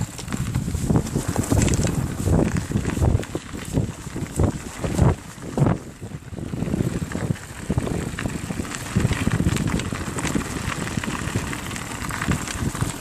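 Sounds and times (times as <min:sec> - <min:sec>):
bicycle tyres rumbling on trail: 0:00.0 - 0:13.0
bike clicks and rattles: 0:00.0 - 0:13.0
wind on microphone: 0:00.0 - 0:13.0.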